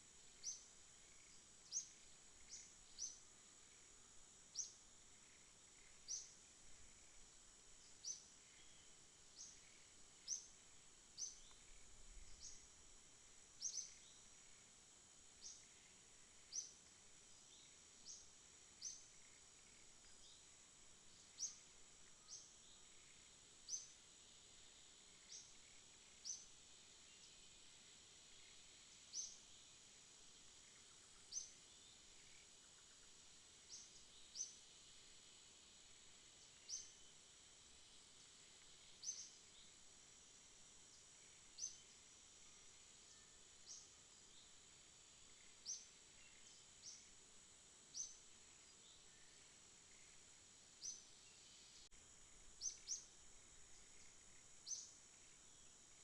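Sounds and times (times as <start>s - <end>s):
insects trilling: 0.0s - 56.0s
sharp high insect chirps: 0.1s - 56.0s.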